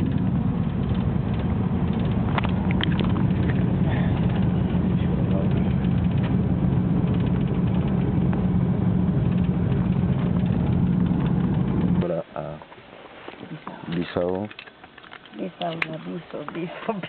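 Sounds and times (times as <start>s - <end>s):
low engine drone: 0.0s - 14.7s.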